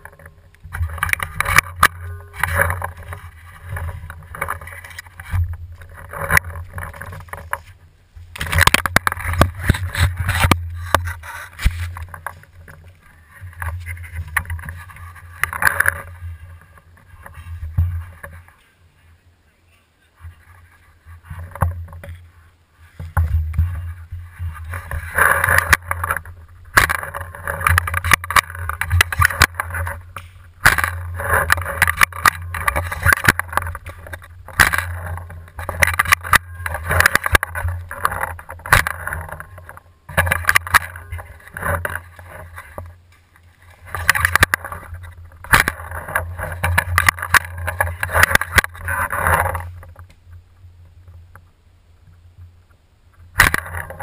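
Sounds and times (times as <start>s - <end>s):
rapid rattling clicks and knocks: 0.0s - 18.6s, 23.0s - 43.0s, 43.6s - 50.1s, 53.3s - 54.0s
low rumbling handling noise: 0.0s - 18.7s, 20.2s - 54.0s.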